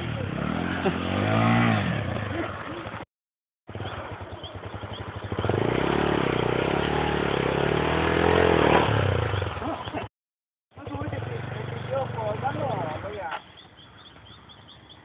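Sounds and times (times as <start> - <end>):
motorcycle engine revving: 0.0 - 3.1, 3.7 - 10.1, 10.8 - 13.3.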